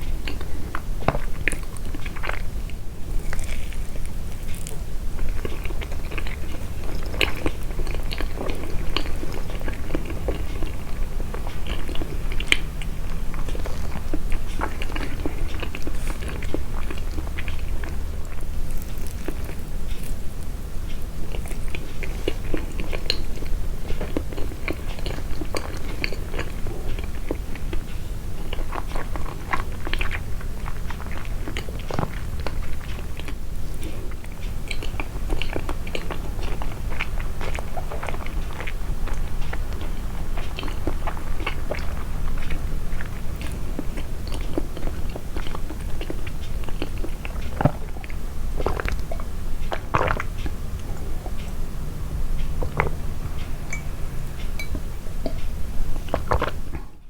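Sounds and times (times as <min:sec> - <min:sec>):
chewing soft sweets: 0:00.0 - 0:57.0.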